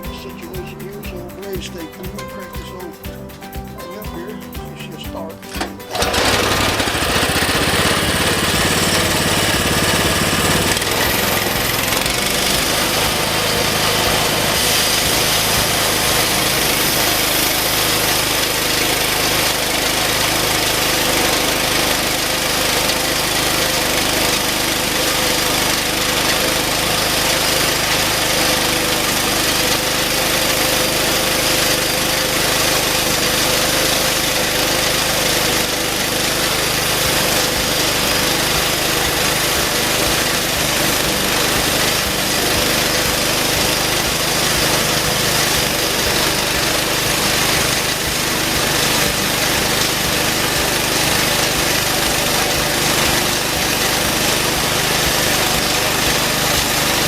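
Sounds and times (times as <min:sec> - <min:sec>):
band sawmill cutting log: 0:03.9 - 0:57.0.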